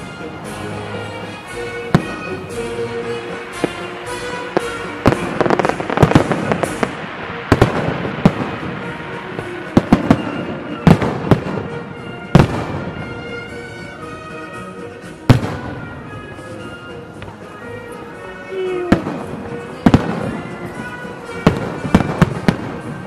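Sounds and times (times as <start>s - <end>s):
fireworks bangs and crackles: 0.0s - 17.8s, 18.7s - 23.0s
music: 0.0s - 23.0s.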